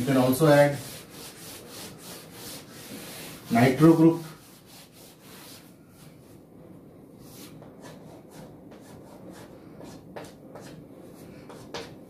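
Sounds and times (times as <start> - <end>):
chalk scratching on board: 0.0 - 6.1, 7.2 - 12.0
duster wiping chalkboard: 0.0 - 6.4, 7.2 - 12.0.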